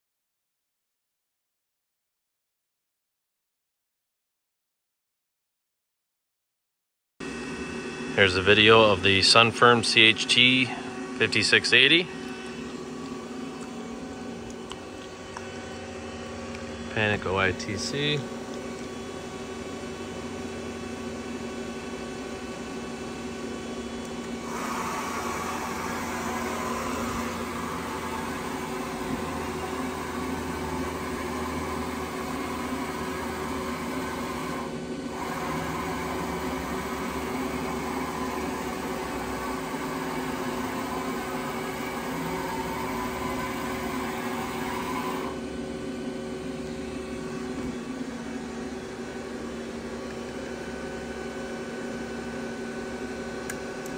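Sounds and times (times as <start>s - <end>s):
machinery hum: 7.2s - 53.9s.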